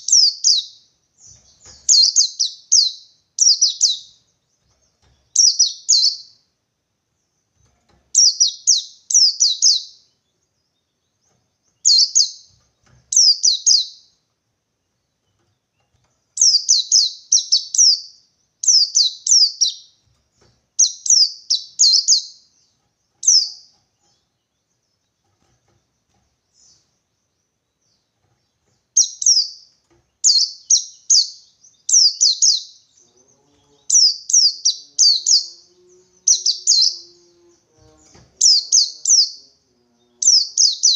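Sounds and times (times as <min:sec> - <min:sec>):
bird song bursts: 0:00.0 - 0:06.5, 0:07.2 - 0:14.2, 0:14.8 - 0:40.9.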